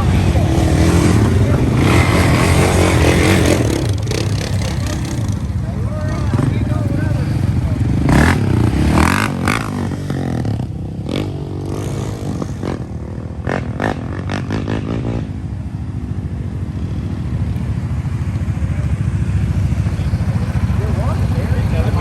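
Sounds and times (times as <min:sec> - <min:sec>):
off-road bike engine running: 0:00.0 - 0:22.0.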